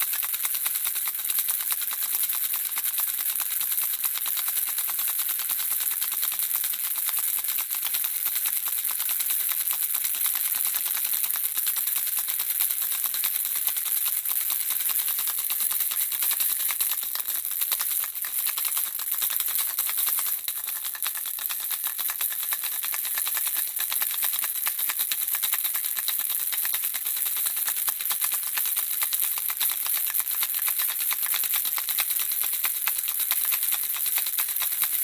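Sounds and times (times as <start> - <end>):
baby rattle shaken: 0.0 - 35.0.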